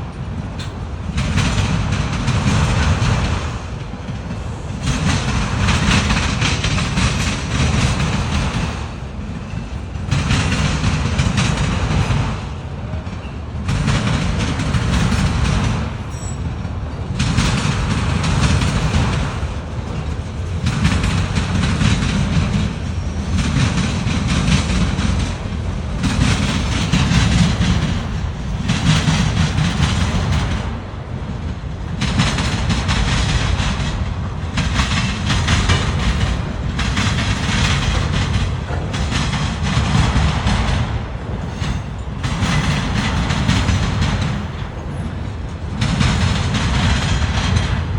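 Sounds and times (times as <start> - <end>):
freight train rolling past: 0.0 - 47.9.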